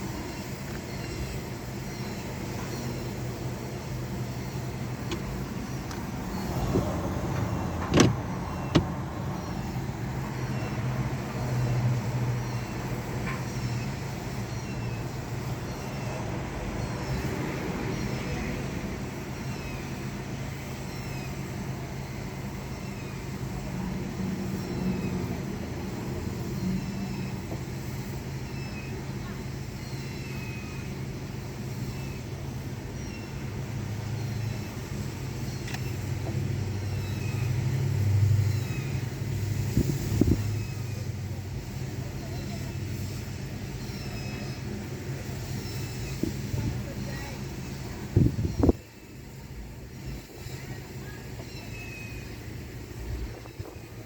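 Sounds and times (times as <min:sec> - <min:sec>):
car wash machinery humming: 0:00.0 - 0:54.0.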